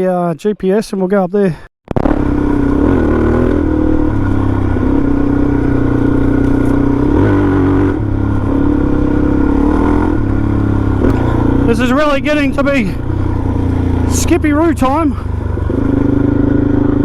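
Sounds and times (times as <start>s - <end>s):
motorcycle engine running: 1.9s - 17.0s.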